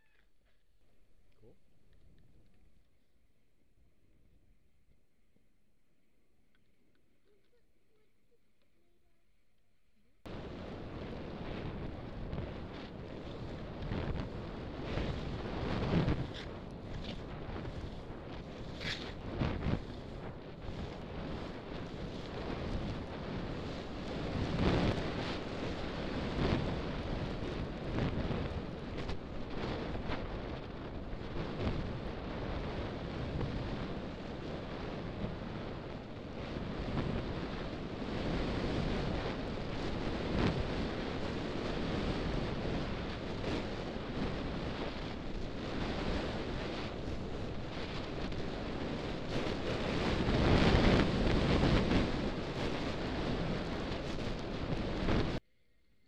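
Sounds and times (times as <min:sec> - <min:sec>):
wind buffeting microphone: 0:10.3 - 0:55.4.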